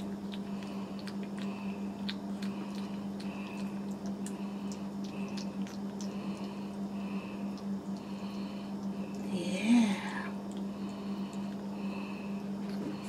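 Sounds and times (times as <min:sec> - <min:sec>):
puppy licking and chewing: 0:00.0 - 0:09.3, 0:10.3 - 0:13.0.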